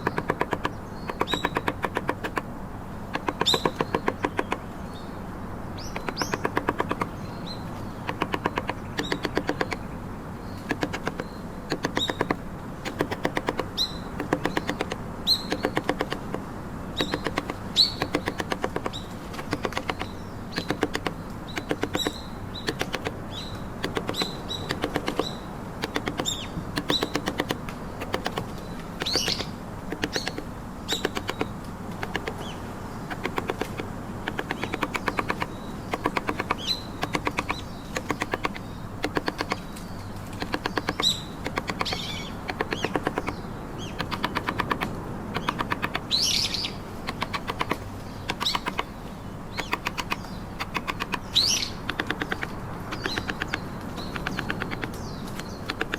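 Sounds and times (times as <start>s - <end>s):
mallet striking chisel into wood: 0.0s - 2.5s, 3.2s - 4.7s, 6.0s - 7.1s, 8.0s - 9.8s, 10.7s - 23.2s, 23.8s - 32.4s, 33.1s - 39.6s, 40.4s - 43.4s, 44.0s - 46.1s, 47.1s - 49.0s, 49.6s - 51.3s, 51.9s - 53.6s.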